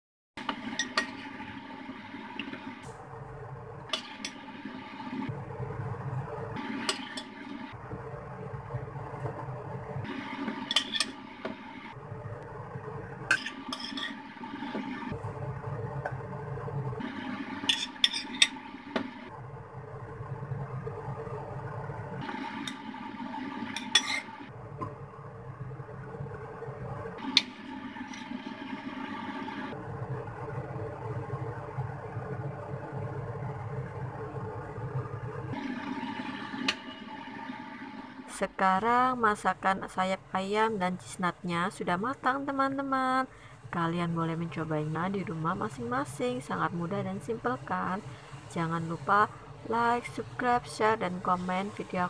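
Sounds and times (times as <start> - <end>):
steady low hum: 0.4 - 52.0.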